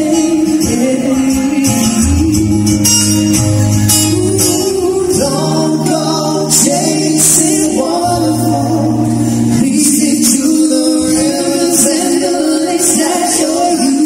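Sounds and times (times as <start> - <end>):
song with singing and bass: 0.0 - 14.0.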